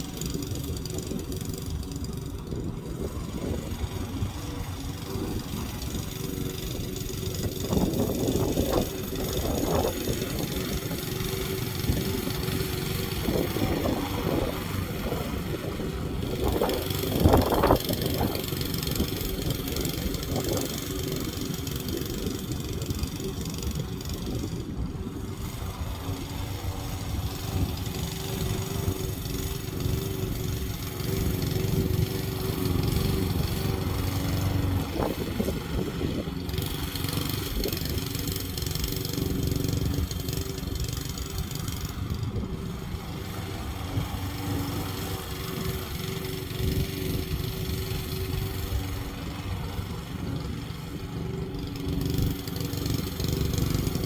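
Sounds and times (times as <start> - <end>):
lawn mower engine running: 0.0 - 54.0.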